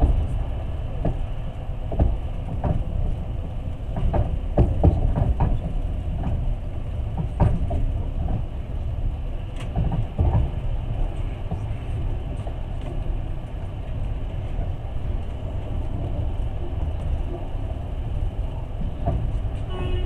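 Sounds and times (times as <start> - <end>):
train rumbling: 0.0 - 20.0
wheels clacking over rail joints: 0.0 - 20.0.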